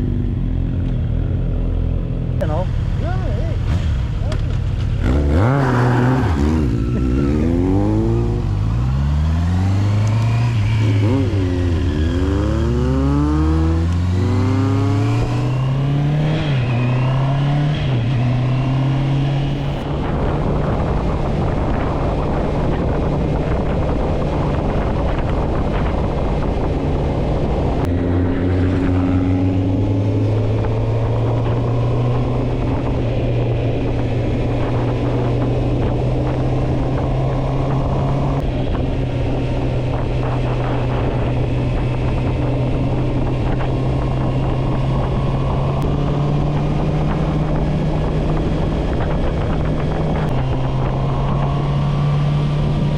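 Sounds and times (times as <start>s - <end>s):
motorcycle engine accelerating: 0.0s - 52.9s
wind rushing: 5.0s - 52.9s.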